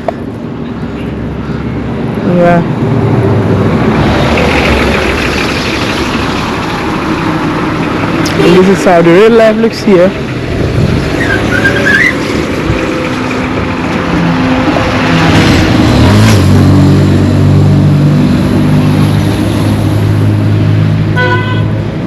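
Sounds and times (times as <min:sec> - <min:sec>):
low engine hum: 0:00.0 - 0:22.0
traffic passing: 0:00.0 - 0:22.0.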